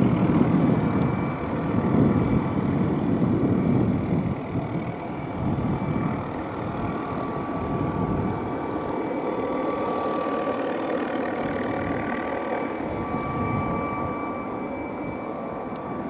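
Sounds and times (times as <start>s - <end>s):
helicopter rotor beat: 0.0s - 16.0s
helicopter turbine whine: 0.0s - 16.0s.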